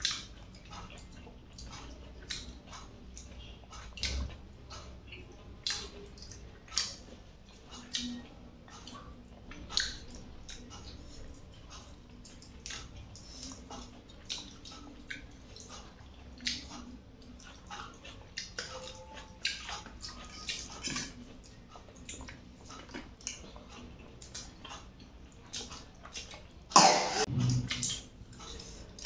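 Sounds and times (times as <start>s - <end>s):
chewing: 0.0s - 29.0s.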